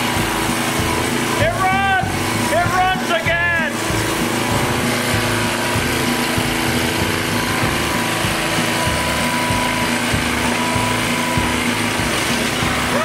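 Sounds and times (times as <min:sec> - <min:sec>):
rototiller engine running: 0:00.0 - 0:13.0.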